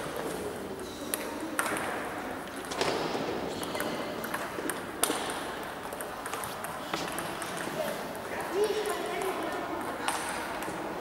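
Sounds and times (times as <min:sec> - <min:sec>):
table tennis balls clicking: 0:01.1 - 0:03.0, 0:03.6 - 0:10.8.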